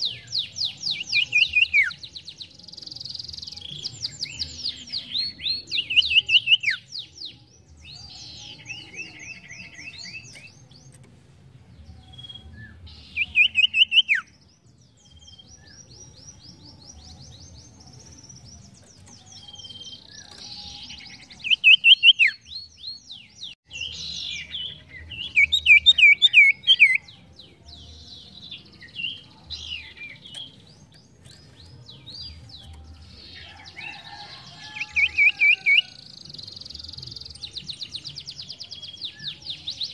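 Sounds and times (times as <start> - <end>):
songbird singing rapid trills: 0.0 - 11.1, 11.8 - 39.9.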